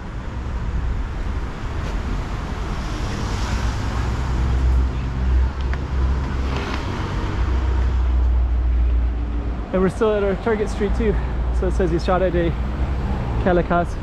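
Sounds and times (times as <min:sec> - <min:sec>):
vehicle engine passing: 0:02.0 - 0:13.8.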